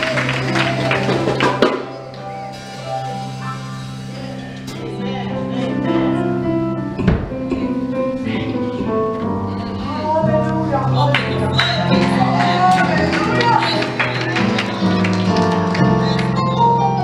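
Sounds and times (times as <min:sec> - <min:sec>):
gospel band music: 0:00.0 - 0:17.0.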